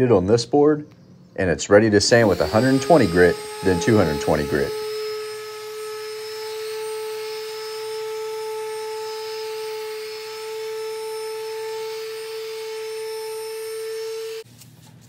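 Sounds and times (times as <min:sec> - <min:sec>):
electric sander motor hum: 0:02.1 - 0:14.5.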